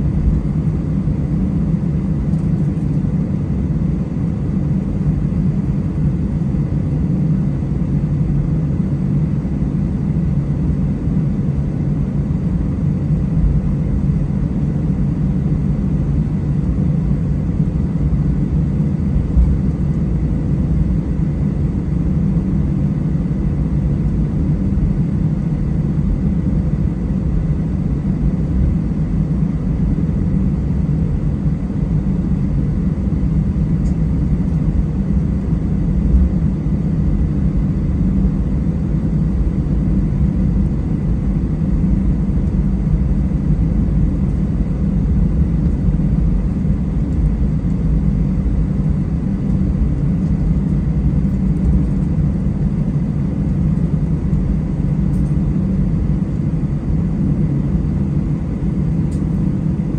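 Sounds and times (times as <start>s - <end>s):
jet engines idling rumble: 0.0s - 59.9s.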